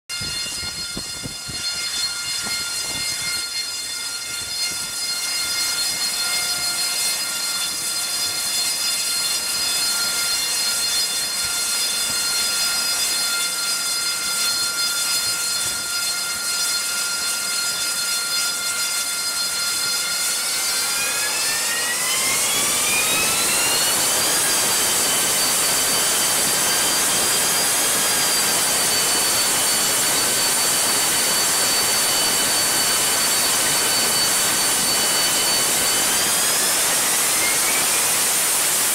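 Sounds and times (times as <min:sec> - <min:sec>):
jet engine high-pitched whine: 0:00.1 - 0:38.9.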